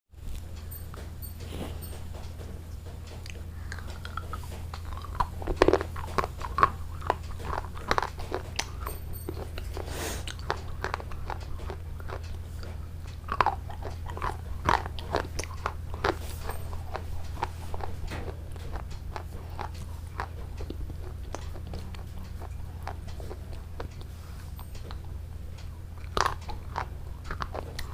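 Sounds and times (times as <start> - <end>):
steady low hum: 0.1 - 27.9
crunchy food being chewed: 3.1 - 27.9.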